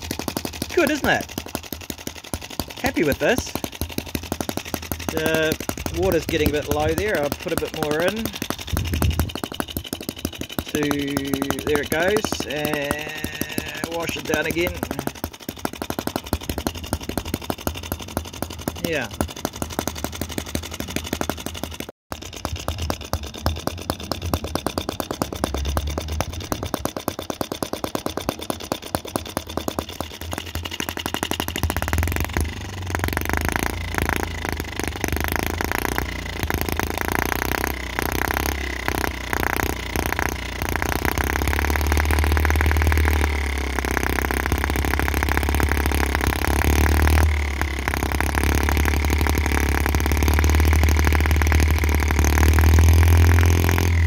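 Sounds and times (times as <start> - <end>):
model gas engine running: 0.0 - 54.0.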